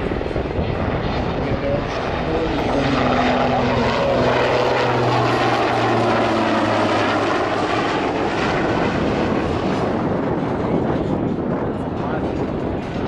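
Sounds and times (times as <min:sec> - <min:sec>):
helicopter rotor and turbine noise: 0:00.0 - 0:13.0.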